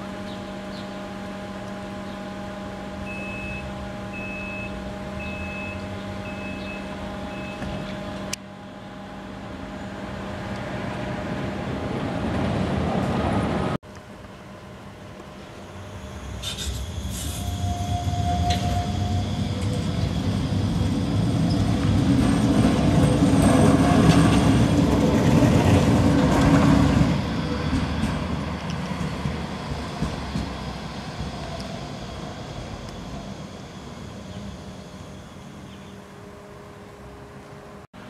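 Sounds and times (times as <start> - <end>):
tram rumbling past on rails: 0.0 - 13.8, 14.8 - 38.0.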